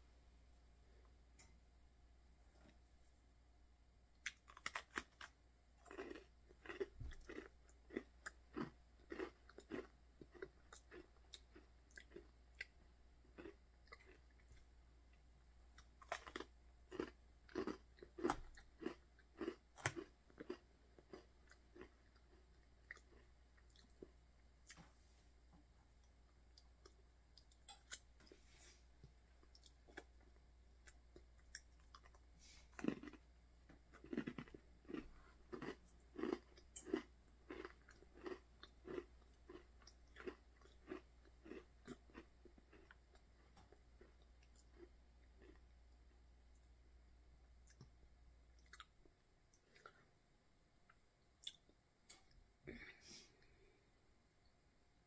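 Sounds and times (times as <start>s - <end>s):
crunching and chewing cookie: 4.1s - 24.9s, 25.8s - 50.2s, 50.8s - 53.7s.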